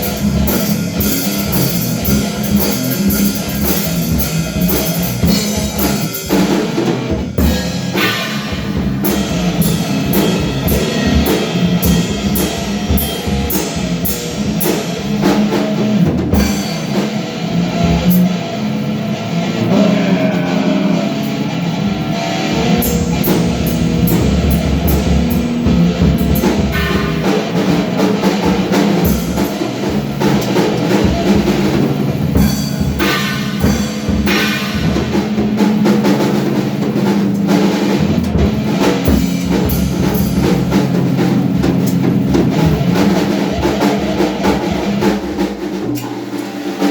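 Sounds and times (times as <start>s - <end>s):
rock music with drums: 0.0s - 46.9s.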